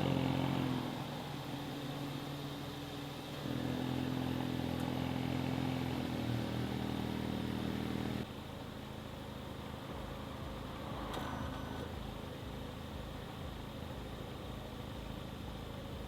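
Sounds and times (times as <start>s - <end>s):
car engine through exhaust: 0.0s - 16.0s.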